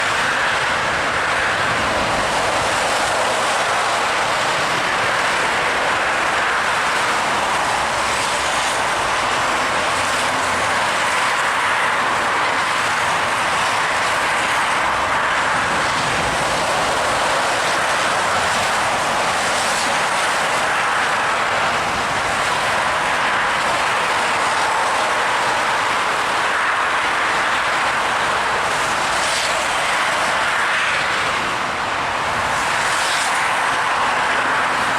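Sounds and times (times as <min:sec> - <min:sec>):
tyres spraying flood water: 0:00.0 - 0:34.9.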